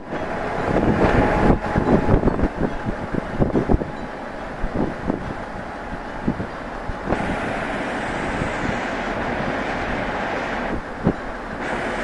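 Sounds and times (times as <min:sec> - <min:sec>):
railcar engine rumble: 0:00.0 - 0:12.0.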